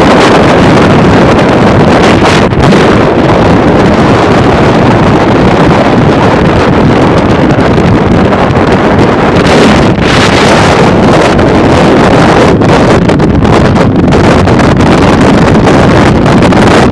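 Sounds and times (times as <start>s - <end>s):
car road noise: 0.0s - 16.9s
wind buffeting microphone: 0.0s - 16.9s.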